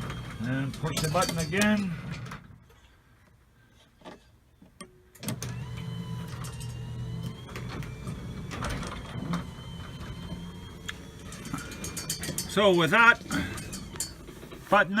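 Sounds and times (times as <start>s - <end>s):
garage door opener running: 0.0s - 2.5s, 5.2s - 14.7s.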